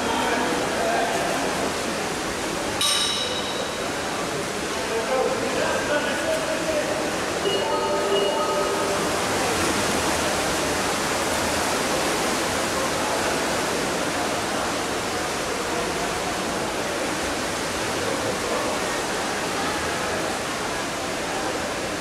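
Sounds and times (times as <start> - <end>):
underwater water rushing: 0.0 - 22.0.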